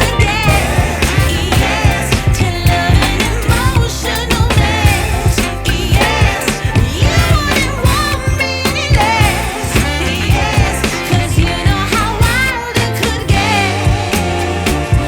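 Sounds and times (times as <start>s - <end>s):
person singing: 0.0s - 15.0s
pop music with drums and bass: 0.0s - 15.0s.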